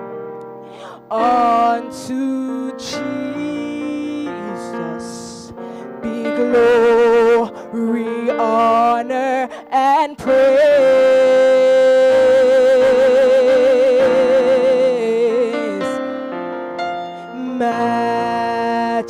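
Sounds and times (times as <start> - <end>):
keyboard chords: 0.0 - 19.0
woman singing into microphone: 0.8 - 16.1, 17.2 - 19.0.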